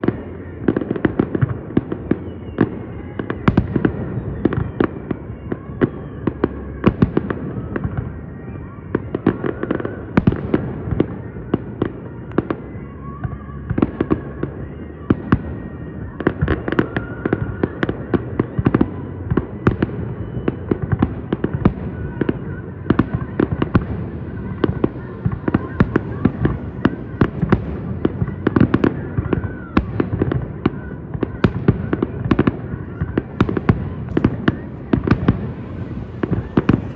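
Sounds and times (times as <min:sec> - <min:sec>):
fireworks bangs and crackles: 0:00.0 - 0:36.9
fireworks whistles: 0:00.1 - 0:36.9.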